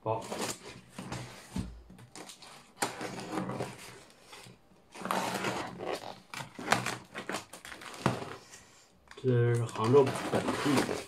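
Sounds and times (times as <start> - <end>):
package rustling and scraping: 0.2 - 8.8, 9.4 - 11.0.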